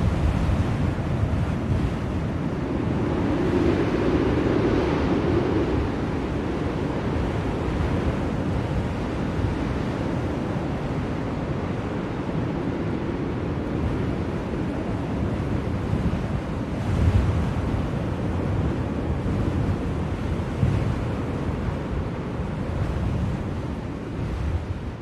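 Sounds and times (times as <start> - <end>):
blizzard wind blowing: 0.0 - 25.0.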